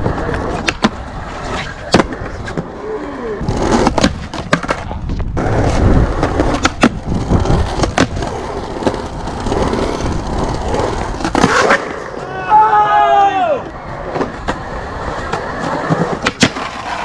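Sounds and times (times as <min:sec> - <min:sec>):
skateboard clacking on ground: 0:00.0 - 0:12.5, 0:14.0 - 0:17.0
skateboard wheels rolling on concrete: 0:00.0 - 0:17.0.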